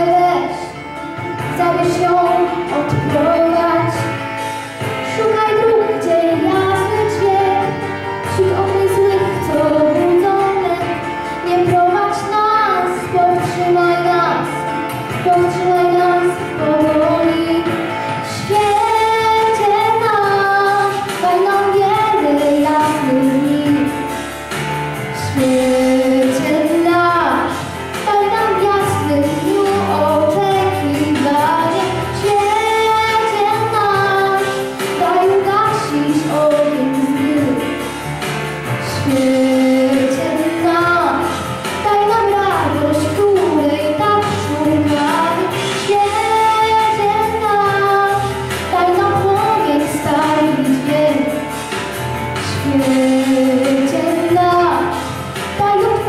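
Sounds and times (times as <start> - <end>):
girl singing into microphone: 0.0 - 24.4, 25.1 - 38.0, 38.7 - 56.0
instrumental backing music: 0.0 - 56.0.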